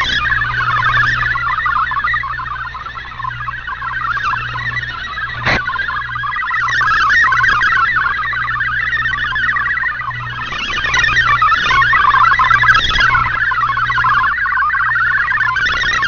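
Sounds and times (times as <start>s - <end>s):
low hum: 0.0s - 16.0s
radio hiss: 0.0s - 16.0s
static crackle: 0.0s - 16.0s
warbling digital data tones: 0.0s - 16.0s.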